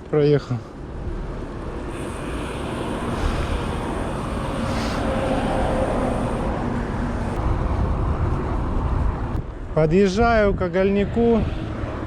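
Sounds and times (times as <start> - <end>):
wind and road noise rumble: 0.0 - 12.0
vehicle passing on road: 0.8 - 9.7, 11.0 - 12.0.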